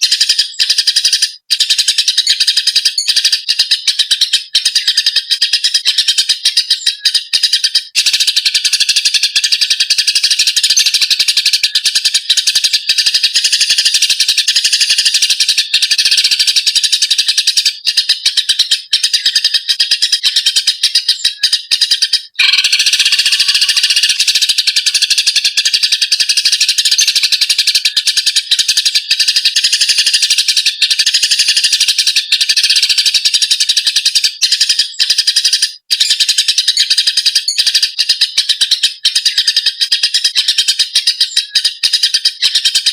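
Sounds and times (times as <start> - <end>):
sparrows chirping harshly: 0.0 - 42.9.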